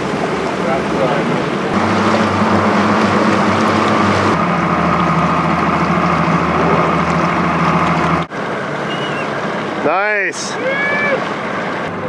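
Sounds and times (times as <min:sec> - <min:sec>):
motorboat engines humming: 0:00.0 - 0:12.0.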